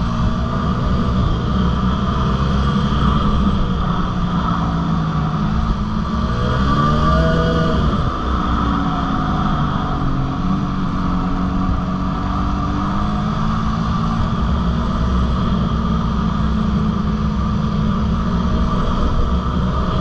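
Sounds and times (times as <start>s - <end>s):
dirt bike engine running: 0.0s - 20.0s
wind rushing over microphone: 0.0s - 20.0s.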